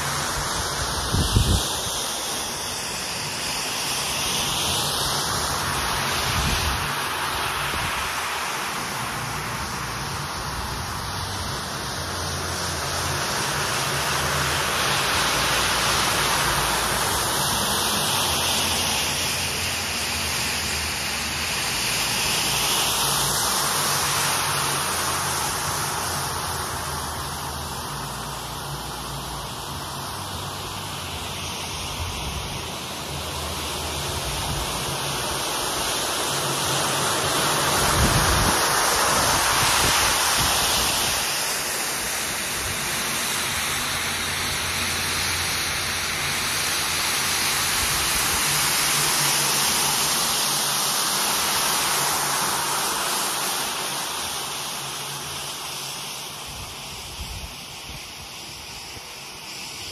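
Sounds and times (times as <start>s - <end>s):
floor machine scrubbing rug: 0.0s - 59.9s.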